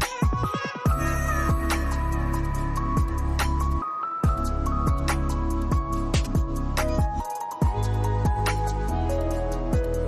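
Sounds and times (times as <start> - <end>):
mellow electronic music: 0.0 - 10.0.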